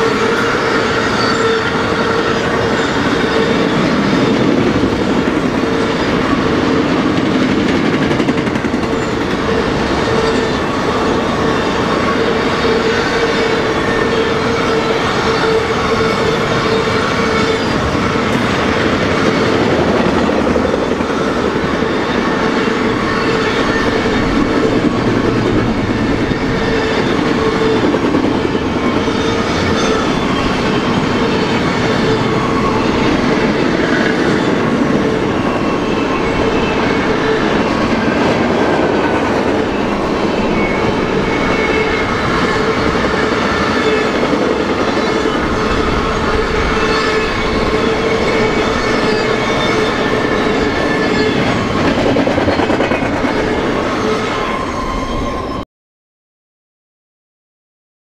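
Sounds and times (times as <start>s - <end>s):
train wheels rumbling on rail: 0.0s - 55.6s.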